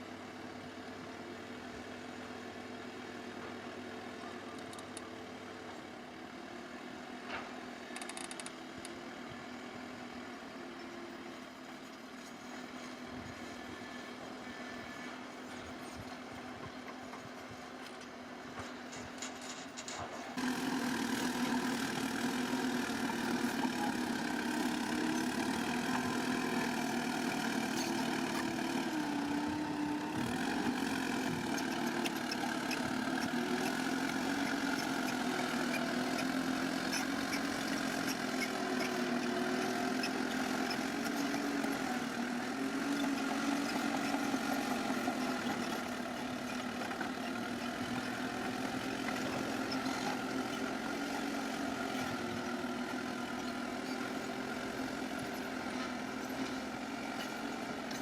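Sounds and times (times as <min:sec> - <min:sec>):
bulldozer diesel engine running: 0:08.6 - 0:58.0.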